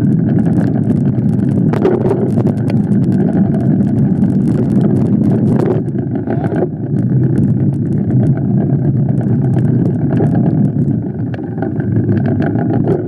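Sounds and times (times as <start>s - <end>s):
bike tyres rolling on dirt: 0.0s - 13.0s
small clicks and rattles: 0.0s - 13.0s
wind buffeting microphone: 0.0s - 13.0s.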